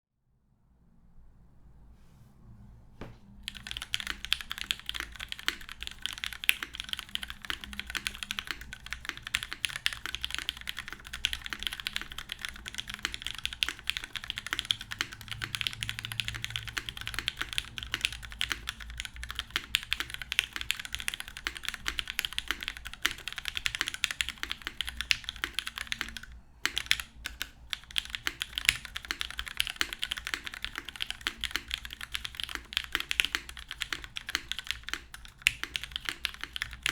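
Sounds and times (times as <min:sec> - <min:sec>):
fast mechanical keyboard typing: 0:03.4 - 0:36.9.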